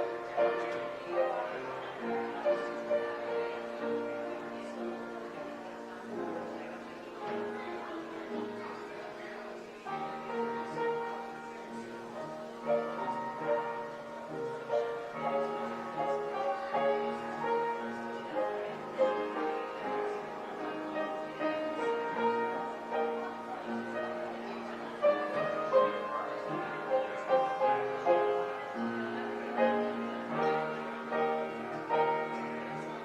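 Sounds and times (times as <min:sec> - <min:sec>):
piano prelude: 0:00.0 - 0:33.0.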